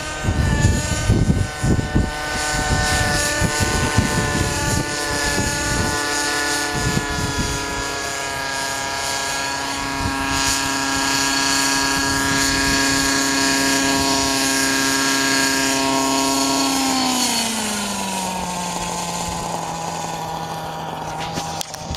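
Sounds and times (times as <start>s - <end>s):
model helicopter engine and rotor: 0.0s - 21.9s.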